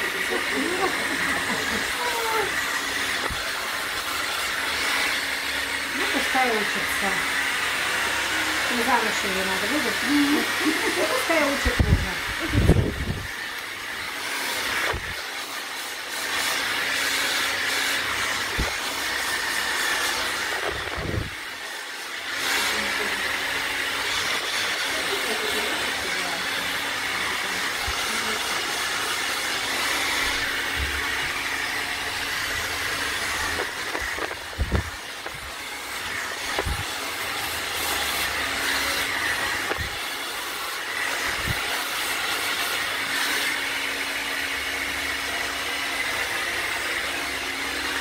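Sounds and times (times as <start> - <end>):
hair dryer blowing: 0.0 - 48.0.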